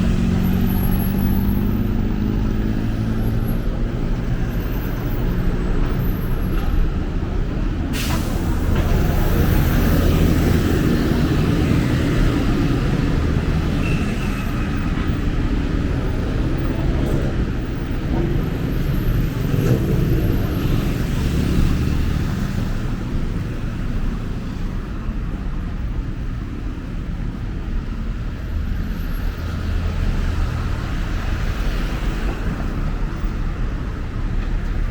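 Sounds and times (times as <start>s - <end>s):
traffic engines rumbling: 0.0s - 34.9s.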